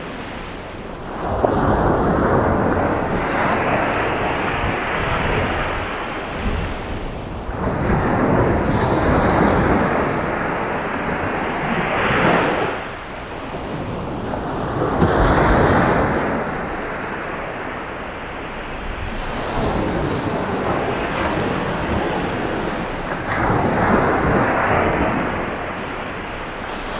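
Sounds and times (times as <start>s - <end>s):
wind buffeting microphone: 0.0s - 26.9s
surf breaking on beach: 1.1s - 26.9s.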